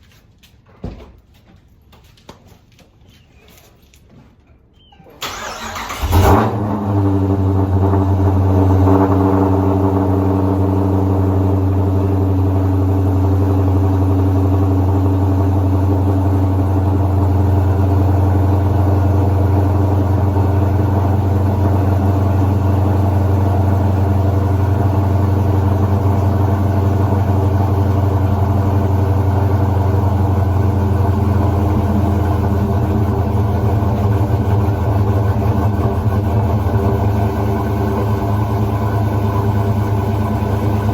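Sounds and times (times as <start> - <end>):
car engine starting and idling: 5.2 - 40.9.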